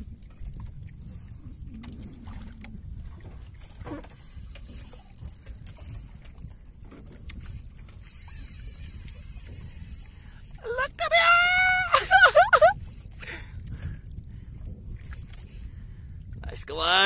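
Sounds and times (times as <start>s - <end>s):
water lapping against boat: 0.0s - 17.0s
wind rumbling on microphone: 0.0s - 17.0s.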